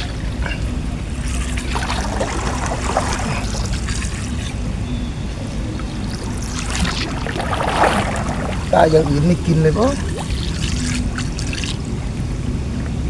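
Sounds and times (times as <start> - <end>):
water splashing and trickling: 0.0 - 12.6
steady low rumble: 0.0 - 13.0.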